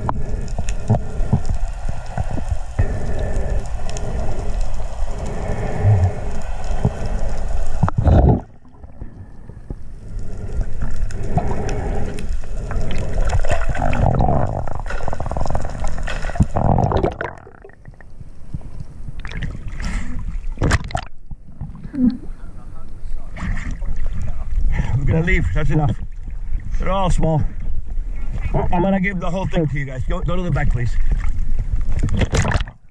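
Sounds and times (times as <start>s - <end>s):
underwater water rushing and gurgling: 0.0s - 32.9s.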